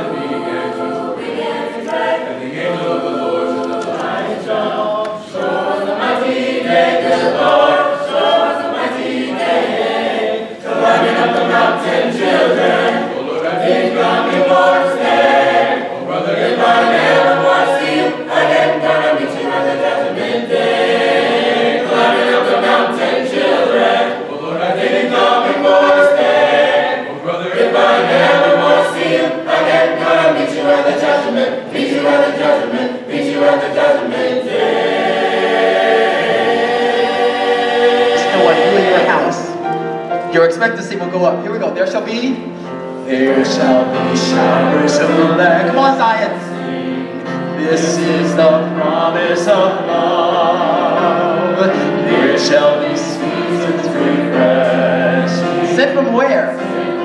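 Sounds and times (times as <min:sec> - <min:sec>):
choir singing a cappella: 0:00.0 - 0:40.4, 0:42.4 - 0:57.0.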